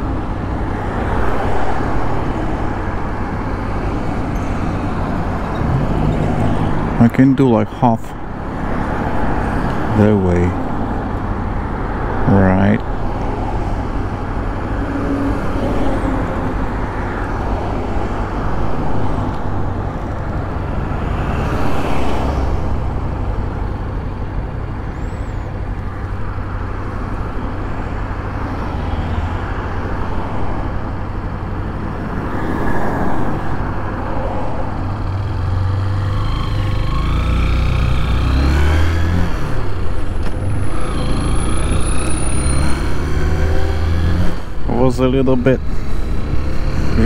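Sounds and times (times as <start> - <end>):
cars and truck passing: 0.0 - 47.0.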